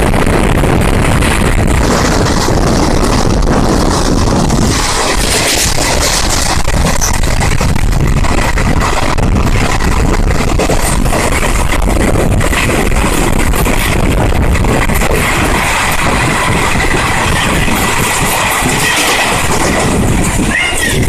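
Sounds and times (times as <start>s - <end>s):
rush of air: 0.0s - 21.0s
train rumbling: 0.0s - 21.0s.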